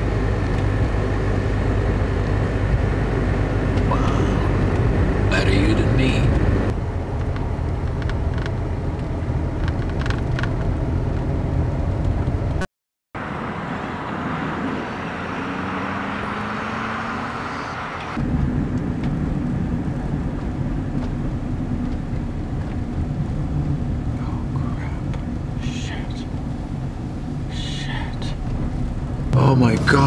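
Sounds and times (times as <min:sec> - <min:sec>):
car driving rumble: 0:00.0 - 0:30.0.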